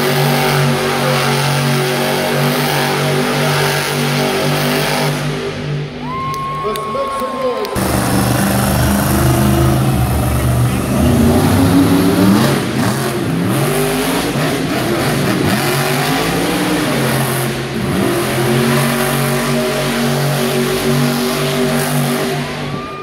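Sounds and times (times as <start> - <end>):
truck engine revving hard: 0.0 - 6.0, 7.8 - 23.0.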